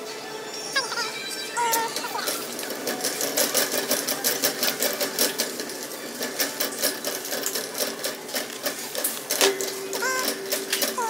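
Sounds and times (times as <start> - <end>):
shopping cart rattling: 0.5 - 11.0.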